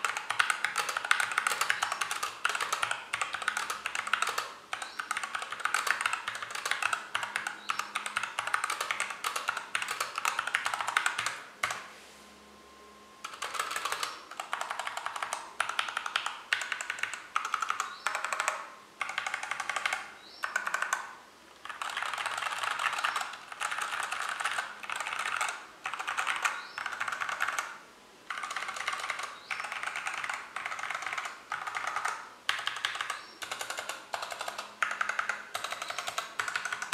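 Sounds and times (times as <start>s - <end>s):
fast typing on mechanical keyboard: 0.0s - 11.8s, 13.3s - 36.9s.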